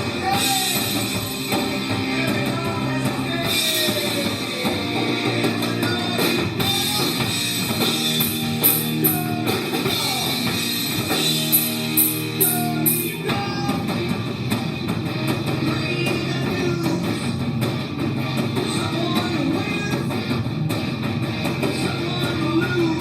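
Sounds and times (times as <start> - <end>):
drum kit playing: 0.0 - 23.0
electric guitars: 0.0 - 23.0.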